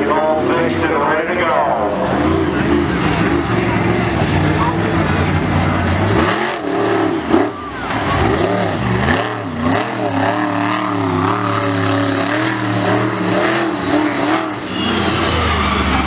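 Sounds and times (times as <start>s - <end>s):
large engine revving: 0.0s - 16.0s.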